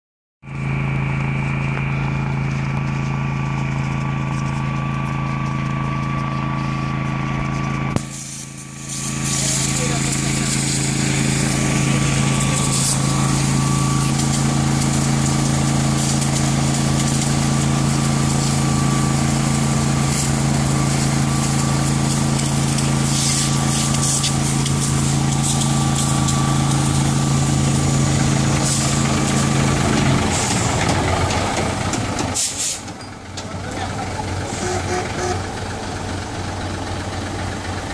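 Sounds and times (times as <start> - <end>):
vehicle engine idling: 0.4 - 37.9.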